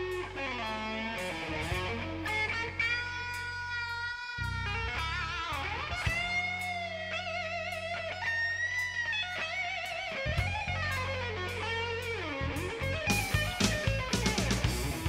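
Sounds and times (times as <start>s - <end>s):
electric guitar slow melody: 0.0s - 15.0s
held bass notes: 0.0s - 15.0s.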